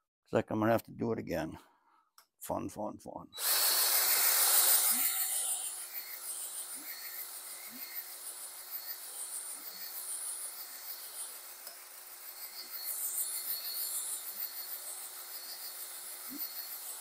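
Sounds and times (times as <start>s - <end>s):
cordless drill whirring: 3.4s - 17.0s.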